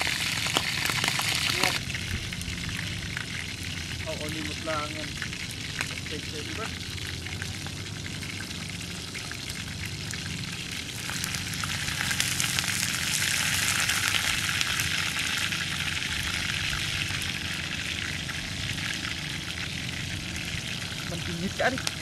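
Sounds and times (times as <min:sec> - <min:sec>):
crackling hiss: 0:00.0 - 0:07.2, 0:07.8 - 0:22.0
low steady hum: 0:00.0 - 0:22.0.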